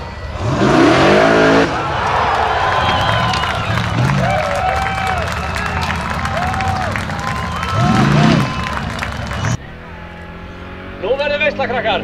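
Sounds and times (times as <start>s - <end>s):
crowd cheering and shouting: 0.0s - 10.6s
buggy engine revving: 0.0s - 12.0s.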